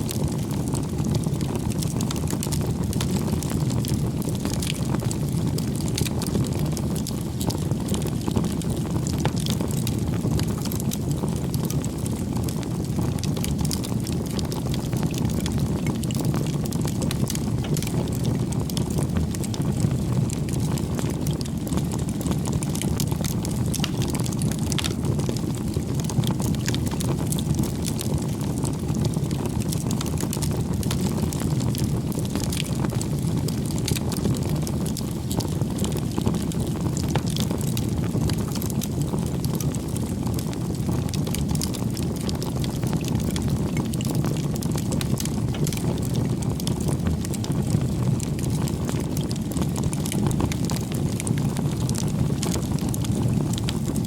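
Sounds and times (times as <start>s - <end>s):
burning wood crackling and popping: 0.0s - 54.0s
low rumble of flame: 0.0s - 54.0s.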